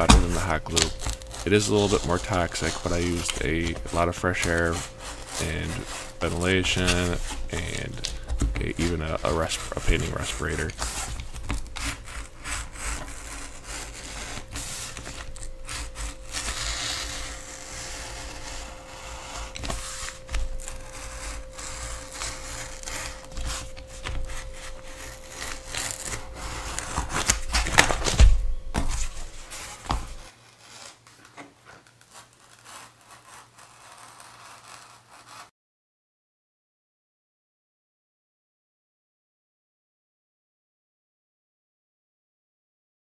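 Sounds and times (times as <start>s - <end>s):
knife slicing through foam: 0.0s - 31.0s, 32.0s - 35.5s.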